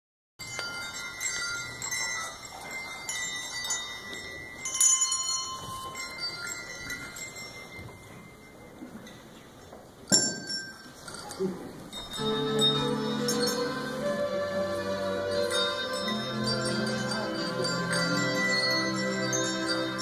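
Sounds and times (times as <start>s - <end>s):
handbells ringing: 0.4s - 9.2s, 10.1s - 20.0s.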